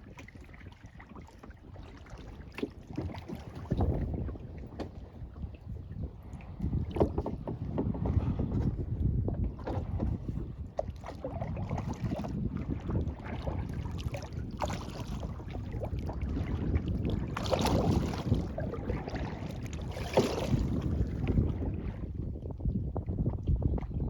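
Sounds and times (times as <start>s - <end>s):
kayak paddle splashing: 0.0s - 22.1s
wind rumble on microphone: 0.0s - 24.0s.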